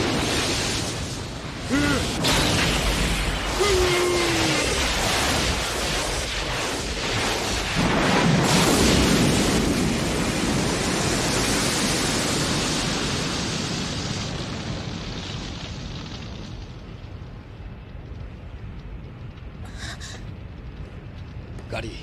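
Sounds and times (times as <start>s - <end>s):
large explosion blast: 0.0s - 18.2s
long explosion rumble: 0.0s - 22.0s.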